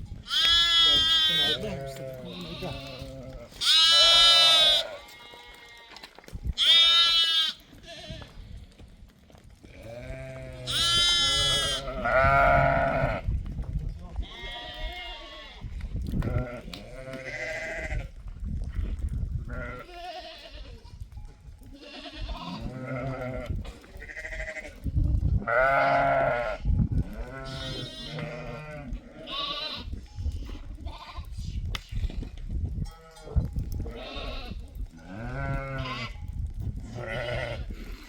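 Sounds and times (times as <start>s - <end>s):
sheep and goats bleating: 0.2s - 8.7s, 9.6s - 13.4s, 14.2s - 18.2s, 19.5s - 32.2s, 32.8s - 38.0s.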